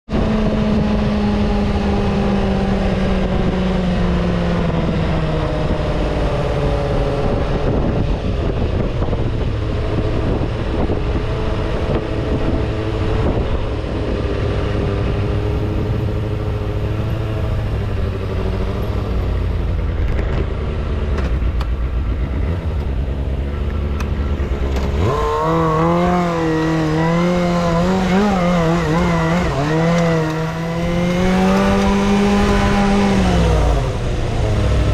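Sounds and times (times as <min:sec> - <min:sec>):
road and wind rumble: 0:00.0 - 0:34.9
louder engine rising and falling: 0:00.1 - 0:34.9
vehicle engine running: 0:00.2 - 0:34.9.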